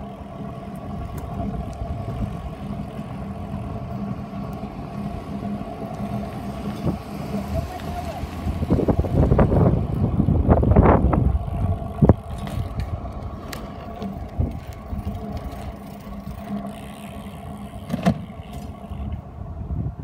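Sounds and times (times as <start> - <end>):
bike riding on asphalt: 0.0 - 20.0.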